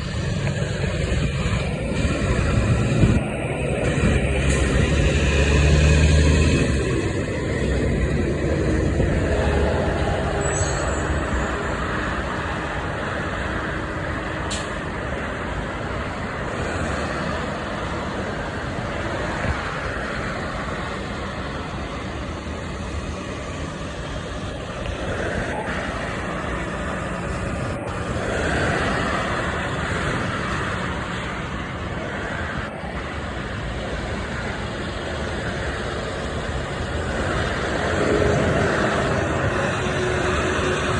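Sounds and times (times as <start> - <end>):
motor vehicles passing: 0.0 - 40.9.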